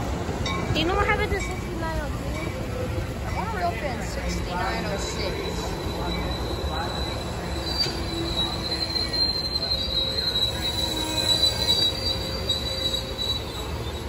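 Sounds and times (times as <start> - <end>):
steel wheels rumbling on rail: 0.0 - 14.0
train running gear squealing: 0.5 - 14.0.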